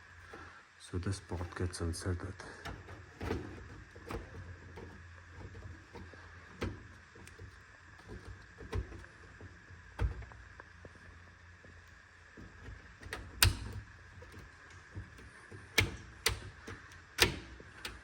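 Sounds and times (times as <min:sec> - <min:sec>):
steady low hum: 0:00.0 - 0:18.0
hands clicking and knocking parts: 0:02.4 - 0:18.0.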